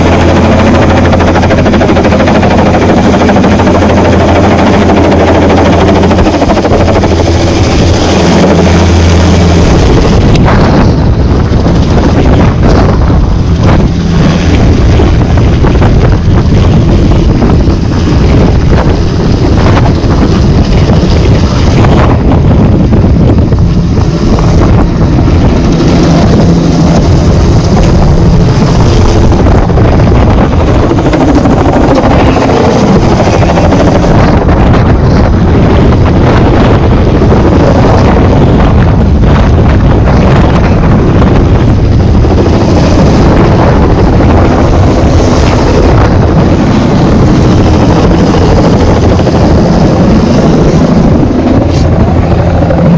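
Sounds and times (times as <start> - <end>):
helicopter rotor and engine: 0.0 - 52.9
wind buffeting microphone: 0.0 - 52.9.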